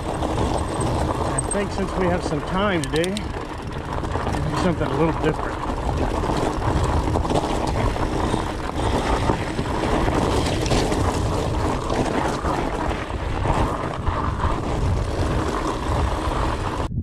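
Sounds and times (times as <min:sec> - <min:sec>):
bike tyres rolling on gravel: 0:00.0 - 0:17.0
wind buffeting microphone: 0:00.0 - 0:17.0.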